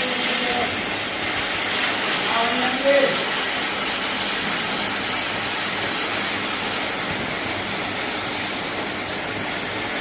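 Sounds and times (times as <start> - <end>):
plasma torch hissing: 0.0 - 10.0.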